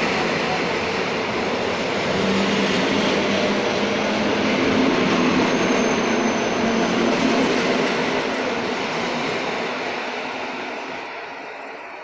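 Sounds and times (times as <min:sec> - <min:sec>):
train passing wheel-on-rail noise: 0:00.0 - 0:12.0.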